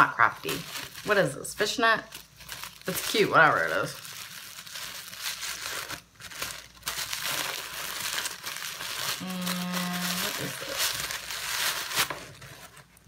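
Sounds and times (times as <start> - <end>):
gift wrapping crinkling: 0.0 - 13.0.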